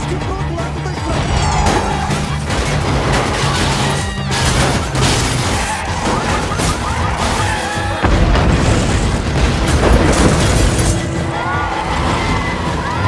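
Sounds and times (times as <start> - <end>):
dramatic orchestral score: 0.0 - 13.0
crashing and booming destruction: 1.0 - 13.0
sharp impacts: 1.2 - 12.6.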